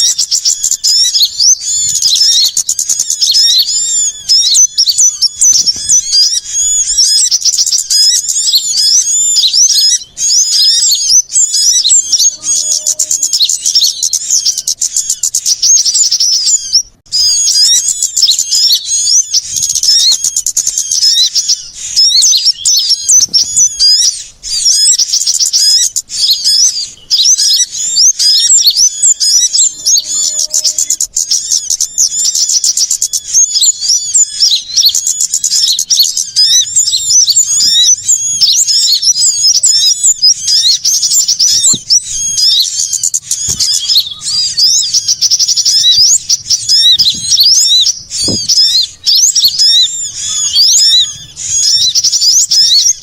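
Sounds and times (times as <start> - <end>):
crowd of songbirds chirping: 0.0 - 53.0.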